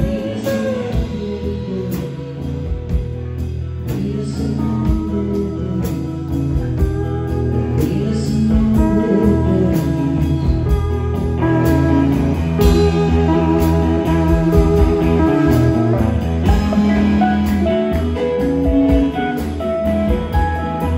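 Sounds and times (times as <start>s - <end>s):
drum kit: 0.0s - 20.9s
electric bass: 0.0s - 20.9s
electric guitar lead: 0.0s - 20.9s.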